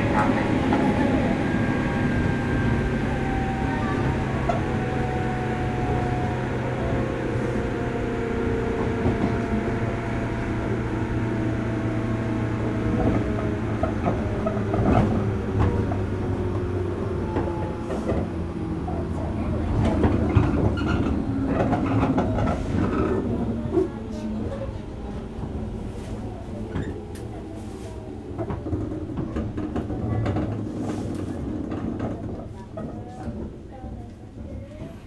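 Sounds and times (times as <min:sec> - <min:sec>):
electric train rumble and whine: 0:00.0 - 0:35.0.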